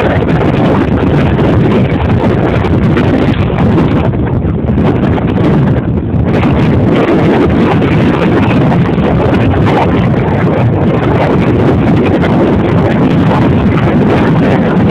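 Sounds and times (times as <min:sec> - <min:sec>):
wind rushing over microphone: 0:00.0 - 0:14.9.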